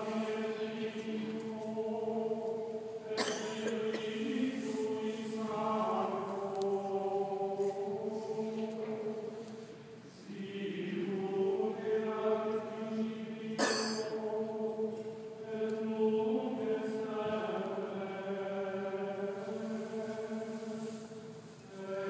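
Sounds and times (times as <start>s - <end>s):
voices singing slow chant: 0.0s - 22.0s.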